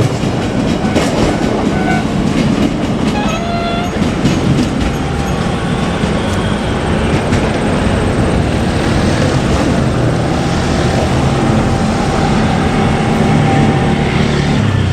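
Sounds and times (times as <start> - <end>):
wheel clacks over rail joints: 0.0 - 14.0
electric train rumbling: 0.0 - 14.9.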